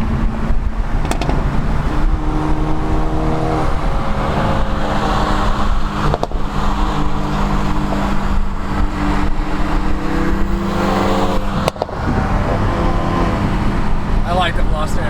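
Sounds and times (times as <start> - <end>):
car engine running under load: 0.0 - 15.0
road noise: 0.0 - 15.0.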